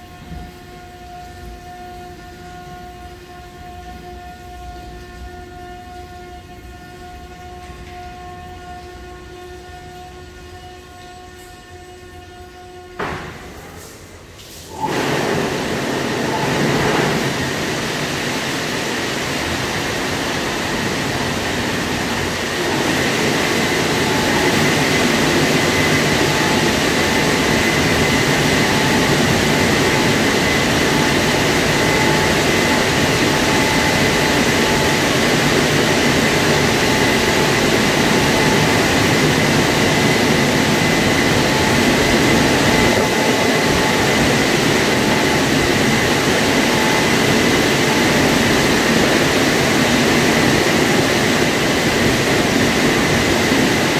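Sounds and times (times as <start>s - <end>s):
car wash machine whining: 0.0s - 11.8s, 13.1s - 53.9s.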